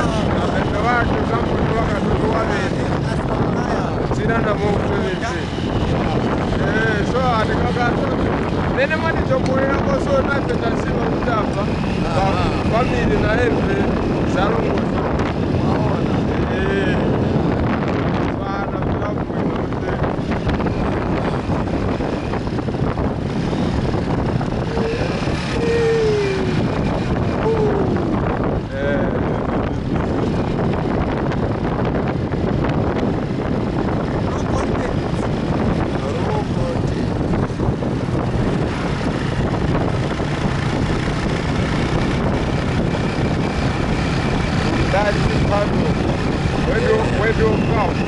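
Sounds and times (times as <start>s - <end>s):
motorbike engine rumble: 0.0s - 48.0s
wind buffeting microphone: 0.0s - 48.0s.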